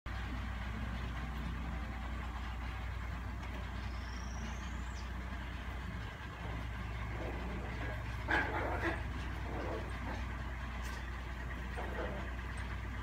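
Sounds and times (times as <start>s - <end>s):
low mechanical hum: 0.1s - 13.0s.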